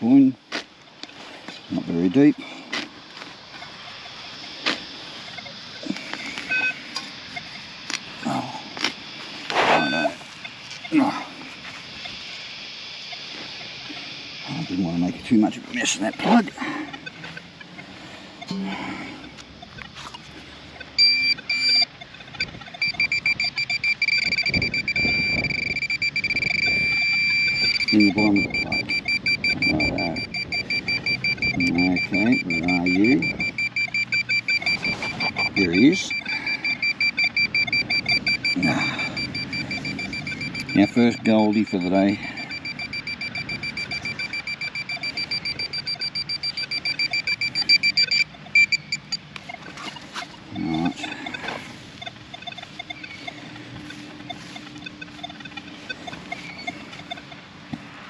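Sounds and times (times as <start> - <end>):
metal detector beeping: 3.4 - 18.6, 19.2 - 57.5.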